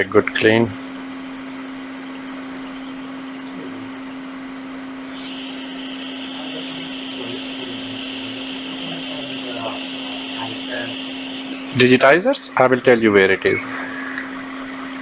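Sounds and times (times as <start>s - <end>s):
high hissing whine: 0.0s - 15.0s
machine hum: 0.0s - 15.0s.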